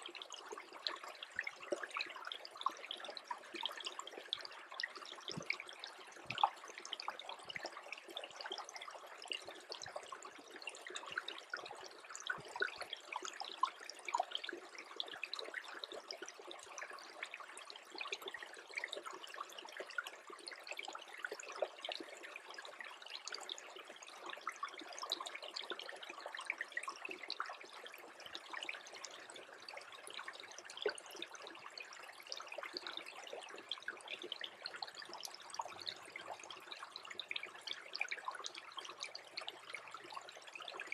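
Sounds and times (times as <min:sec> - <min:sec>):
brook trickling and gurgling: 0:00.0 - 0:40.9.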